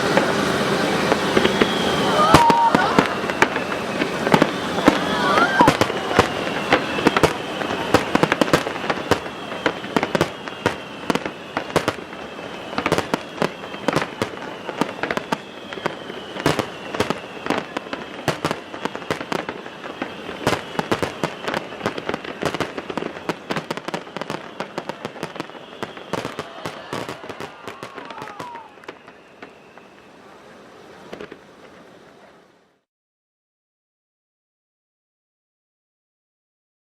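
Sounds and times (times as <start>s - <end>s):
fireworks bangs and crackling pops: 0.0s - 32.4s.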